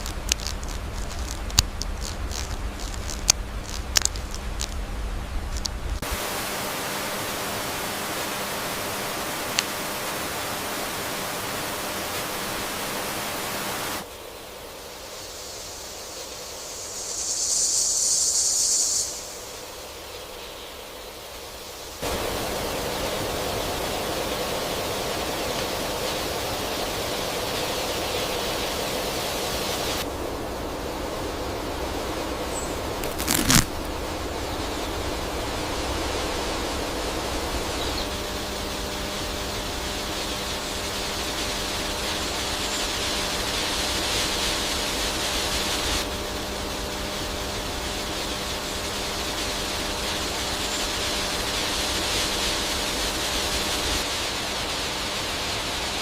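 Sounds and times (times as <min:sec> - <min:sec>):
faint steady hum: 0:00.0 - 0:56.0
steady background hiss: 0:00.0 - 0:56.0.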